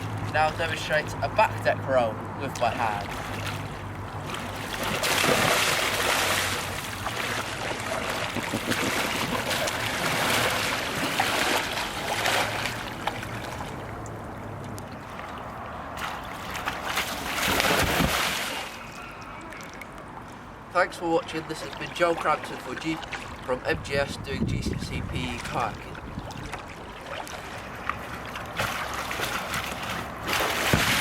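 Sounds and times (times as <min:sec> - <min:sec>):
water splashing around a kayak: 0:00.0 - 0:31.0.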